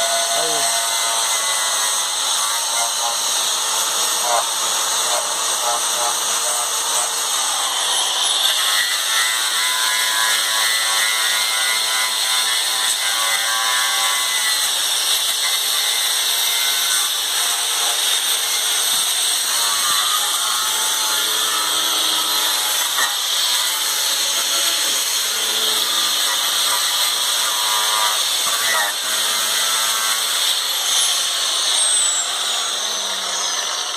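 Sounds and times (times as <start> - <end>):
power tool grinding sheet metal: 0.0 - 33.9.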